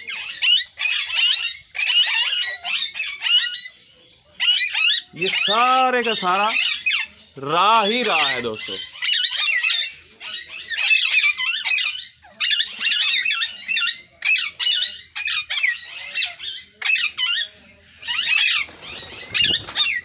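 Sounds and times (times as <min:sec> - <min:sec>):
parakeet flock calling: 0:00.0 - 0:20.0.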